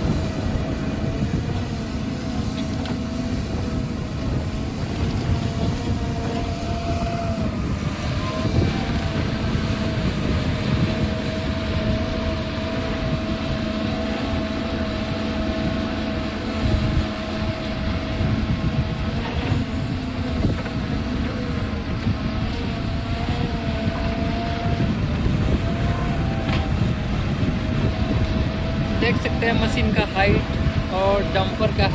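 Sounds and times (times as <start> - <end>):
excavator diesel rumble: 0.0 - 31.9
machinery whine: 0.0 - 31.9.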